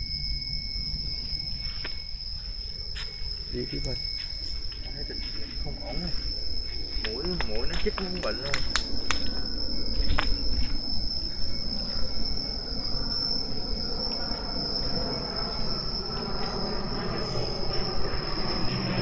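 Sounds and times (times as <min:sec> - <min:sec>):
insects droning: 0:00.0 - 0:19.0
low rumble: 0:00.0 - 0:19.0.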